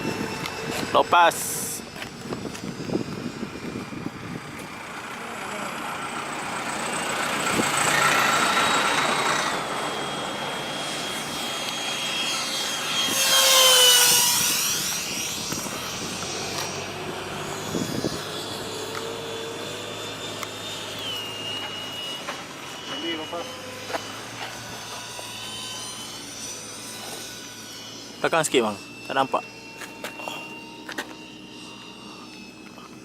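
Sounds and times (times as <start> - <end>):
model jet whining past: 0.0 - 33.0.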